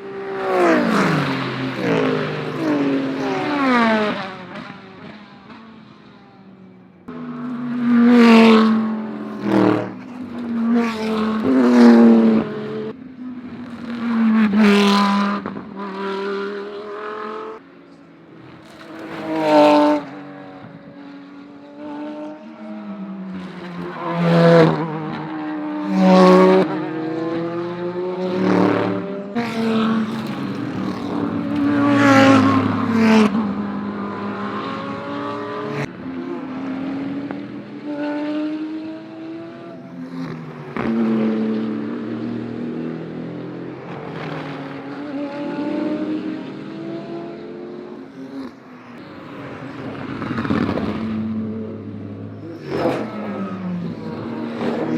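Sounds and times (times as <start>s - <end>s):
race cars passing: 0.0s - 54.9s.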